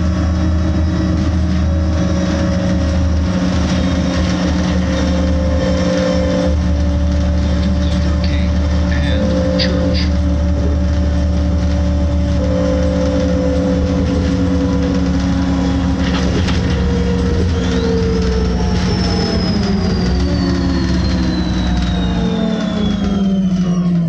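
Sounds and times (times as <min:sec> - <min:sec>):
bus engine and drivetrain whine: 0:00.0 - 0:24.0
brake squeal: 0:01.6 - 0:24.0.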